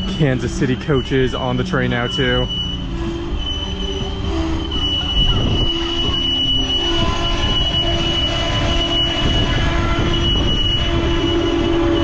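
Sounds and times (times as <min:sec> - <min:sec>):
high-pitched wheel squeal: 0:00.0 - 0:12.0
train coaches rolling on rails: 0:00.0 - 0:12.0.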